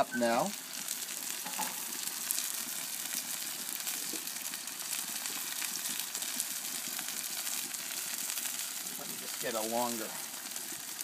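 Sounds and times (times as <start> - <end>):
hot oil sizzling in a skillet: 0.0 - 11.0
faint crackles: 0.4 - 11.0.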